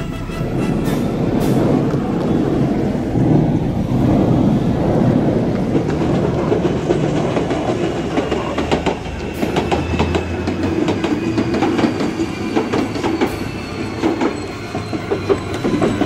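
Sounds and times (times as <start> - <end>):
train wheels rumbling on rail: 0.0 - 16.0
wheels clicking over rail joints: 1.4 - 16.0.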